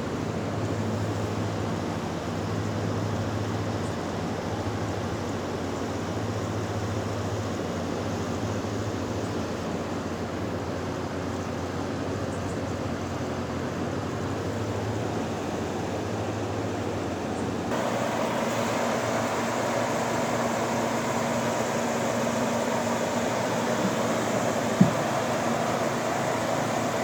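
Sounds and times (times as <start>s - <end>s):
air conditioner running: 0.0s - 27.0s.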